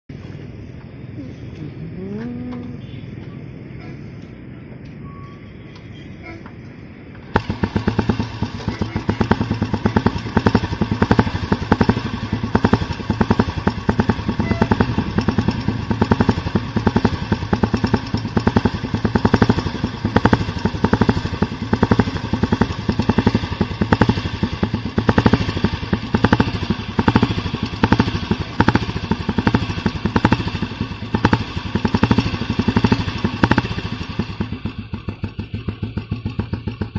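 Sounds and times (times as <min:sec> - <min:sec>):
motorcycle engine thumping: 0:07.2 - 0:36.9.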